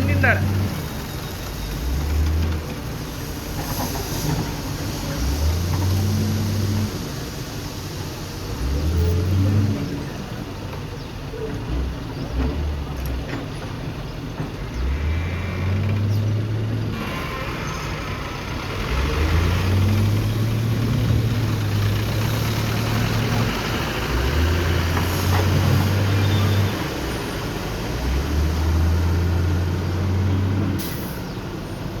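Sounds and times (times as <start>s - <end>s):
backhoe diesel engine revving: 0.0s - 32.0s.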